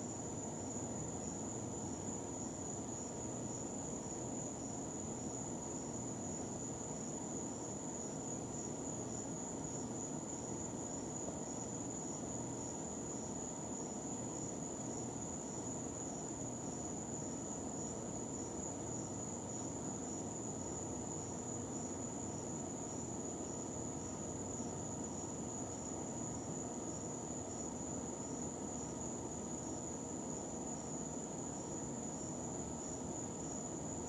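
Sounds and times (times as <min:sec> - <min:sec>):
background hiss and hum: 0:00.0 - 0:34.0.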